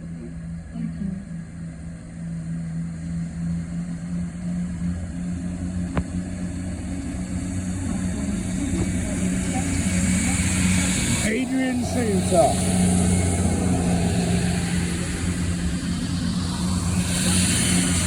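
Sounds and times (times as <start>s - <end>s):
diesel train engines running: 0.0s - 18.0s.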